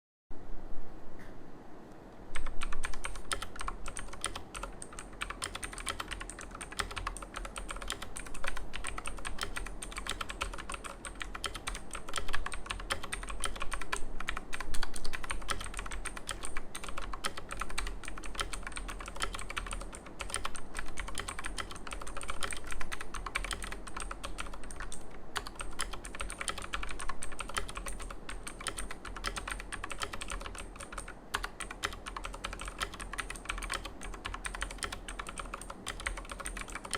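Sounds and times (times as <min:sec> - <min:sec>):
steady low hum: 0:00.4 - 0:36.9
typing on mechanical keyboard: 0:02.4 - 0:36.9.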